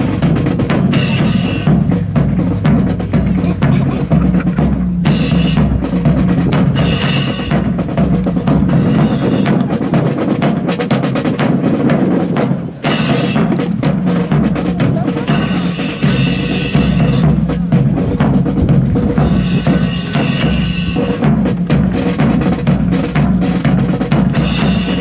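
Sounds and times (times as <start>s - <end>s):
marching snare and bass drum: 0.0s - 25.0s.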